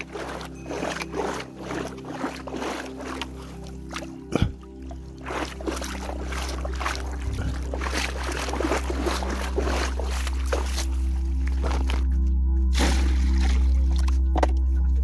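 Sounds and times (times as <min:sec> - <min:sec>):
low hum: 0:00.0 - 0:15.0
water splashing and trickling: 0:00.0 - 0:15.0.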